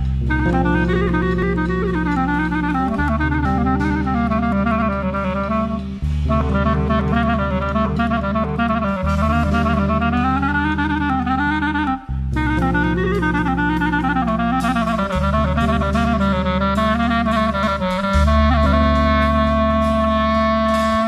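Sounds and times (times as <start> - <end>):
bass line: 0.0 - 21.0
drums: 0.0 - 21.0
jazz music: 0.0 - 21.0
saxophone melody: 0.0 - 21.0.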